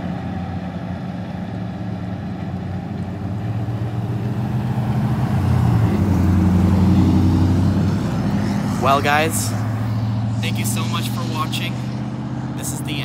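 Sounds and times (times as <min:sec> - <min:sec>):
diesel locomotive engine running: 0:00.0 - 0:13.0
road traffic passing: 0:00.0 - 0:13.0.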